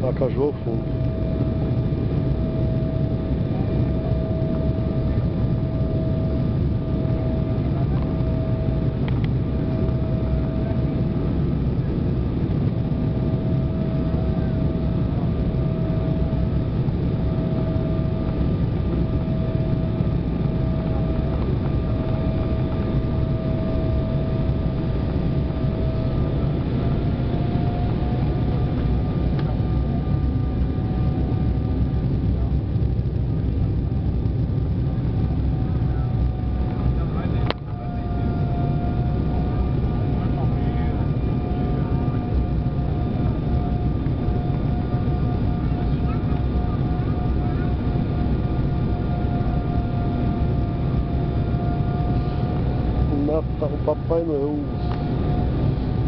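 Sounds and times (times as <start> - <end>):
jet engine roar in cabin: 0.0 - 56.0
steady whine: 0.0 - 56.0.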